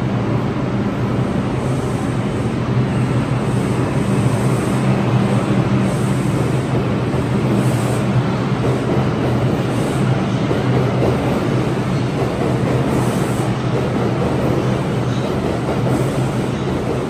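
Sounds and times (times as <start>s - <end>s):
subway train wheels rumbling on rail: 0.0s - 17.0s.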